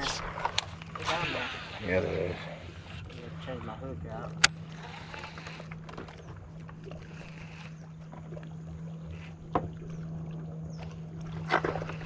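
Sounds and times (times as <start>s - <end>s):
boat low hum: 0.0s - 12.0s.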